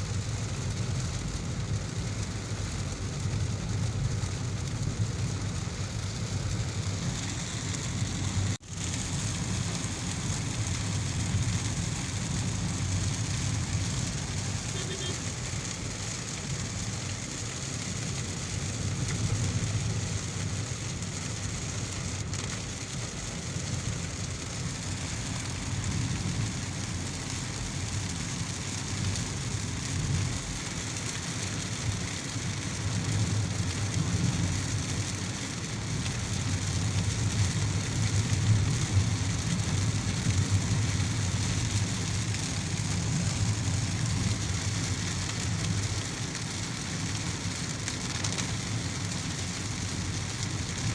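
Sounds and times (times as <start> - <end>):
heavy rain on a car: 0.0 - 50.9
road and engine rumble: 0.0 - 50.9.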